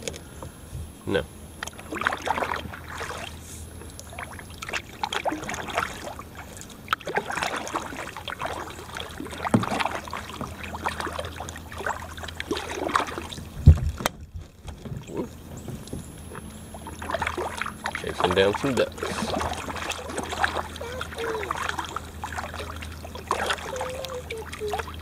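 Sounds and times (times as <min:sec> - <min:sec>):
kayak paddle splashing: 0:01.6 - 0:25.0.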